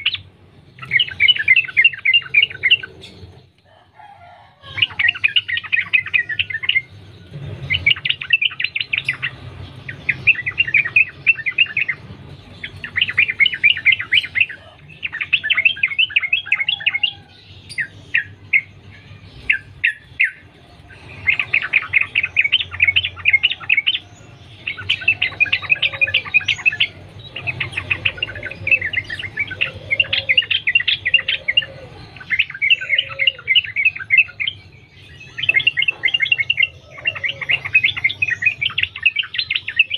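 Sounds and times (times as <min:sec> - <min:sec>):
bird chattering song: 0:00.0 - 0:03.8, 0:04.6 - 0:39.9.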